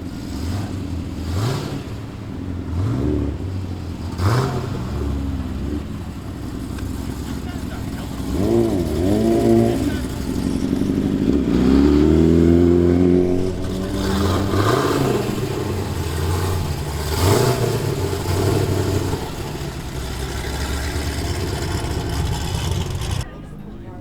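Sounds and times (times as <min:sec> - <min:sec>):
car engine revving: 0:00.0 - 0:23.3.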